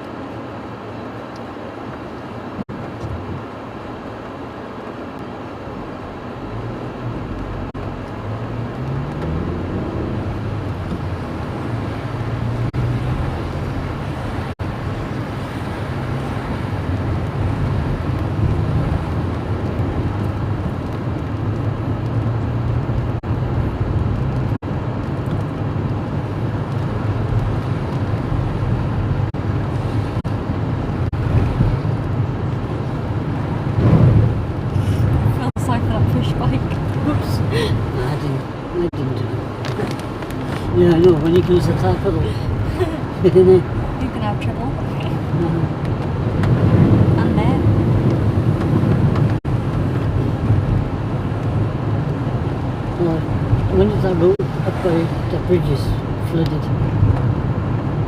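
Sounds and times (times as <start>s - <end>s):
road noise: 0.0s - 58.0s
car engine accelerating: 6.2s - 58.0s.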